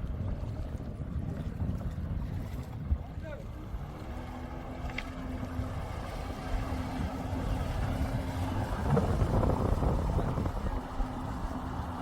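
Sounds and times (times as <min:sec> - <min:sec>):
jet ski engine running: 0:00.0 - 0:12.0.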